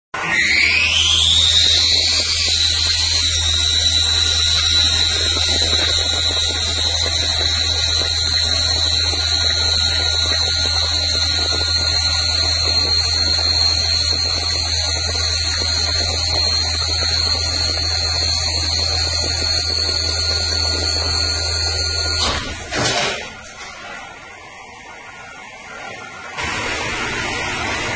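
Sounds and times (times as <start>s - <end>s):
lathe high whine: 0.2s - 27.9s
metal cutting rush: 0.2s - 27.9s
low machine hum: 0.6s - 27.9s.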